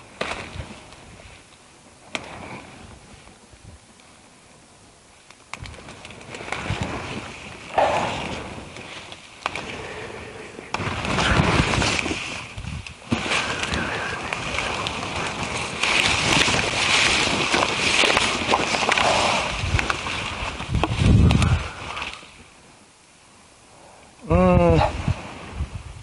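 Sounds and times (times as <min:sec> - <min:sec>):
leaves rustling against camera: 0:00.0 - 0:23.5.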